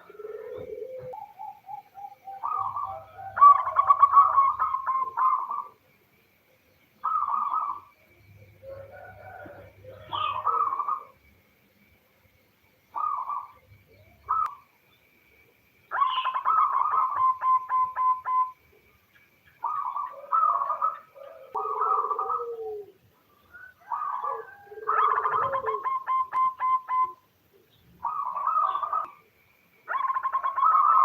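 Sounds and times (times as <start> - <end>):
dove cooing: 0.0 - 5.8, 7.0 - 11.2, 12.9 - 14.6, 15.9 - 18.6, 19.6 - 29.2, 29.9 - 31.0.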